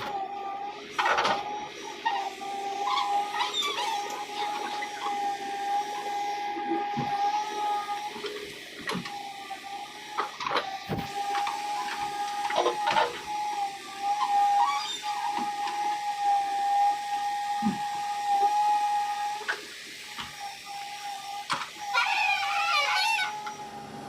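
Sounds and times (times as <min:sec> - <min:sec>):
small electric motor whirring: 0:00.0 - 0:24.0.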